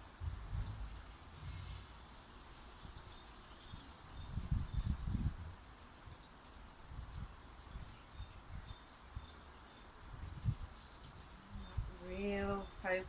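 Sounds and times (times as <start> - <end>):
wind on microphone: 0.0 - 2.2, 2.8 - 5.6, 6.8 - 9.4, 10.0 - 13.0.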